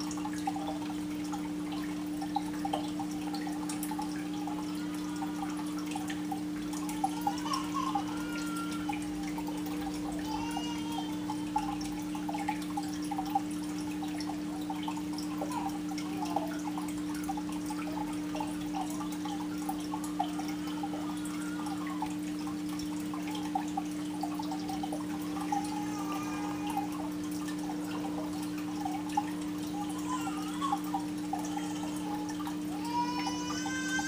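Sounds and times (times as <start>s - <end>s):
aquarium water dripping and bubbling: 0.0s - 34.0s.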